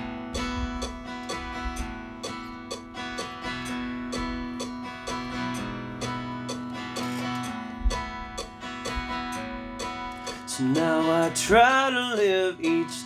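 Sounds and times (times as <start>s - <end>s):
steady drum beat: 0.0s - 13.0s
strummed guitar: 0.0s - 13.0s.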